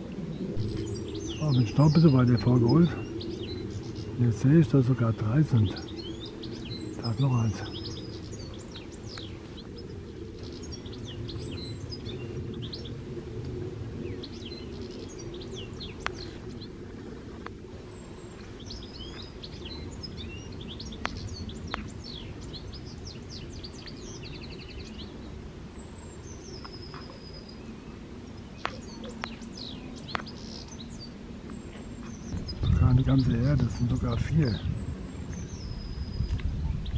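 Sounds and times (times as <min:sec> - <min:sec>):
songbirds chirping and trilling: 0:00.0 - 0:36.9
wind rumble on microphone: 0:00.0 - 0:36.9.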